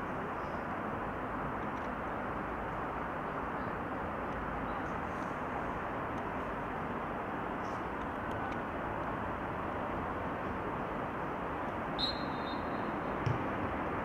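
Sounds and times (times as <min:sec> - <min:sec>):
outdoor rumbling hiss: 0:00.0 - 0:14.0.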